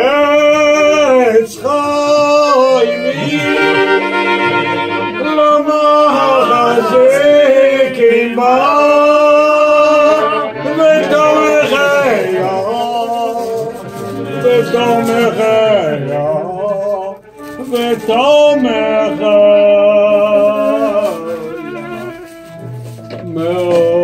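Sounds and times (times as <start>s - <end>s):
men singing: 0.0s - 22.2s, 23.2s - 24.0s
accordion: 0.0s - 24.0s
violin: 0.0s - 24.0s.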